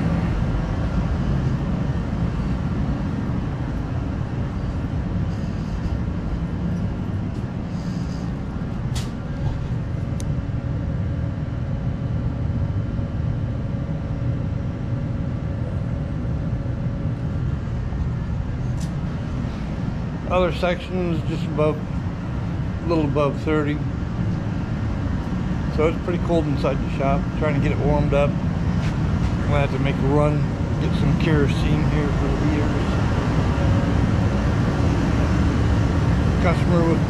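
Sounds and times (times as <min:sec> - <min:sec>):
heaters low rumble: 0:00.0 - 0:37.0.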